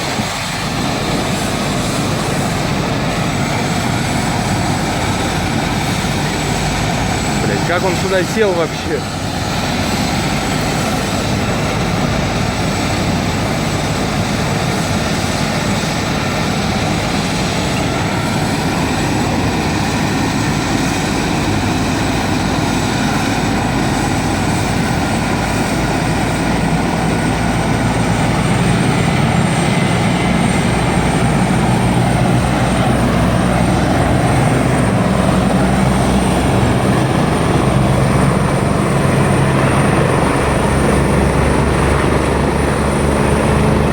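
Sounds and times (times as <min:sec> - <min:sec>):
helicopter turbine and rotor: 0:00.0 - 0:43.9.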